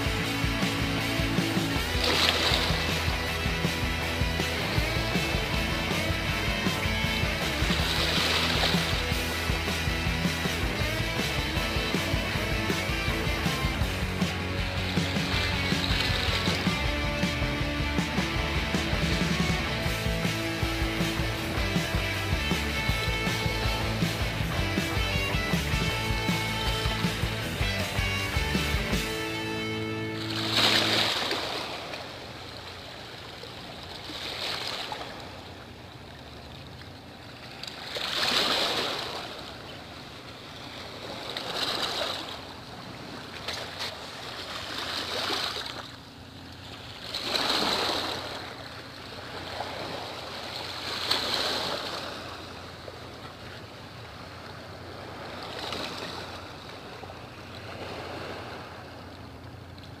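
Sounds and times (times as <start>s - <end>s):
waves washing onto shore: 0.0s - 28.4s, 29.0s - 60.0s.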